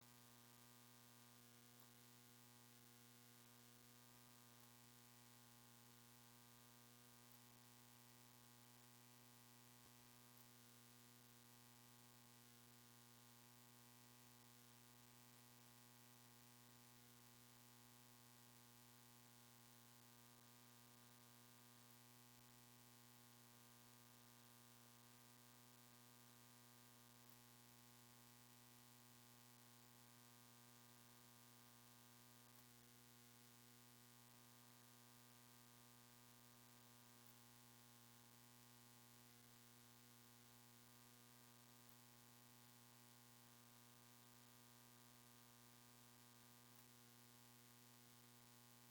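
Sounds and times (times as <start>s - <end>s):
faint electrical hum: 0.0s - 48.9s.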